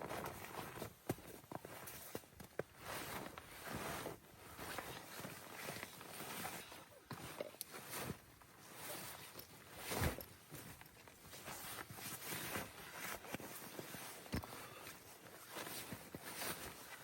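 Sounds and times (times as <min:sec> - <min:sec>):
crunching and rustling in snow: 0:01.6 - 0:17.0.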